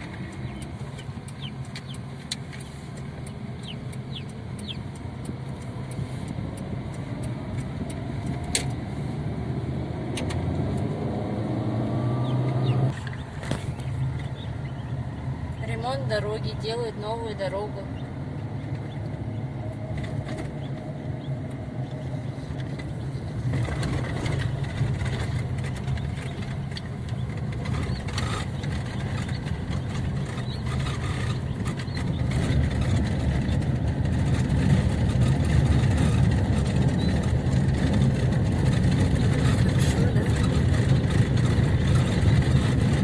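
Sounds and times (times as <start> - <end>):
car engine: 0.0 - 43.0
road noise: 0.0 - 43.0.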